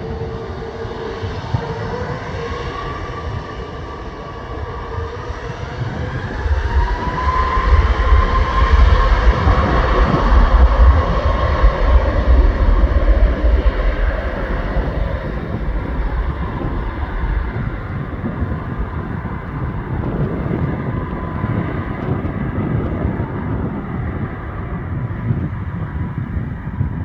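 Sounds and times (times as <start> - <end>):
airliner engines rumbling: 0.0 - 27.0
wind buffeting microphone: 0.0 - 27.0.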